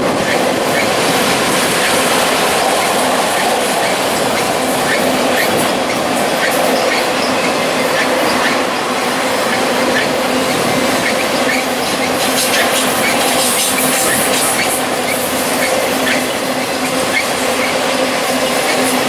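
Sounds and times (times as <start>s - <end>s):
train wheels clattering on rail: 0.0s - 19.0s.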